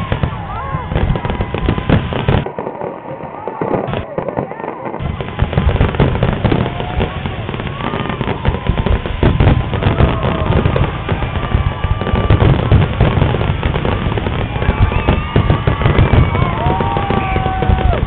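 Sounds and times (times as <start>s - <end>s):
fireworks bangs and booms: 0.0s - 18.0s
fireworks whistling: 0.0s - 18.0s.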